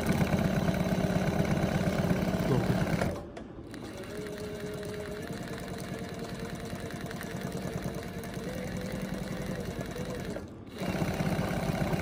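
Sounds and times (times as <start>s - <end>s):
sewing machine chattering: 0.0s - 12.0s.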